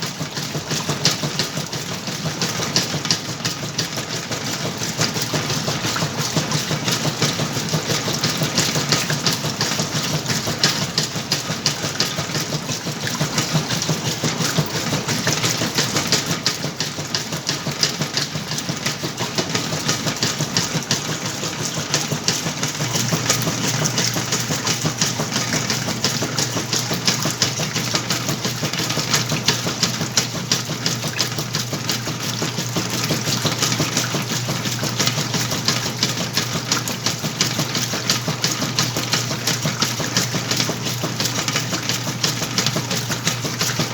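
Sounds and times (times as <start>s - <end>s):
washing machine churning: 0.0s - 43.9s
washing machine motor hum: 0.0s - 43.9s.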